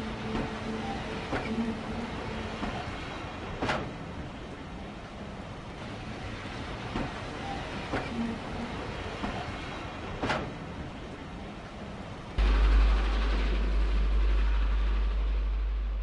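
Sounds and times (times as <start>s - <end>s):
wheels clacking on rails: 0.0s - 14.6s
steam train rolling rumble: 0.0s - 16.0s.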